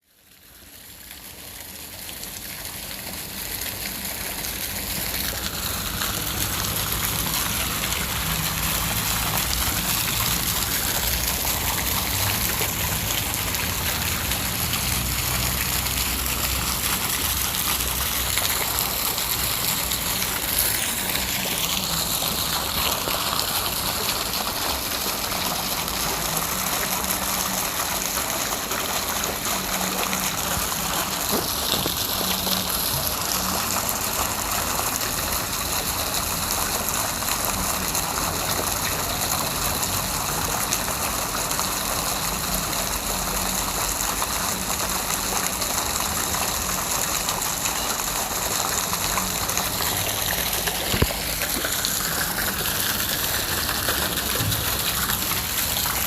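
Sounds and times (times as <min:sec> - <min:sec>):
heavy rain in forest: 0:00.0 - 0:56.0.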